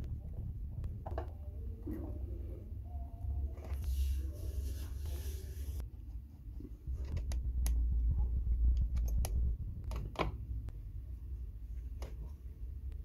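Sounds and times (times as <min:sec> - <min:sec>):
low rumble: 0:00.0 - 0:05.9, 0:06.5 - 0:11.9.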